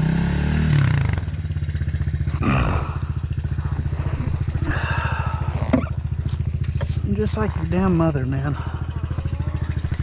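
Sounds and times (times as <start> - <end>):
dirt bike engine idling: 0.0 - 10.0
engine revving: 0.0 - 10.0.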